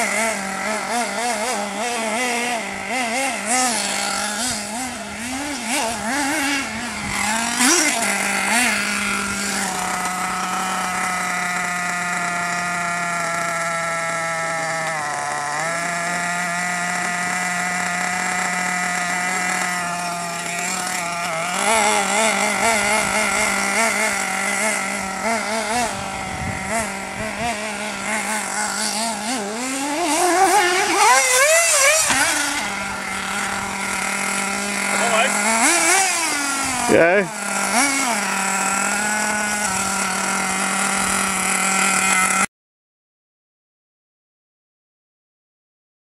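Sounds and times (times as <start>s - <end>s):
small engine buzzing and revving: 0.0s - 42.5s.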